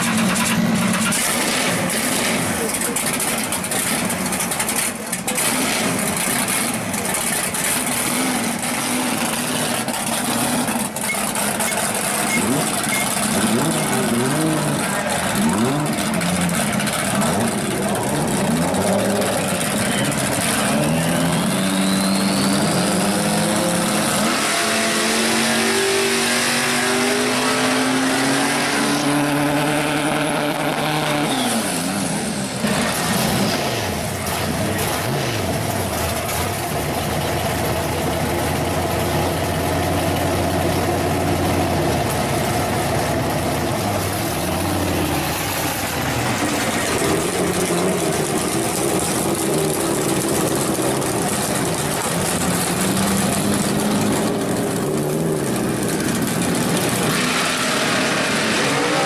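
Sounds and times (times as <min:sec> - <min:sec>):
car engine revving hard: 0:00.0 - 0:36.2, 0:40.2 - 0:59.0.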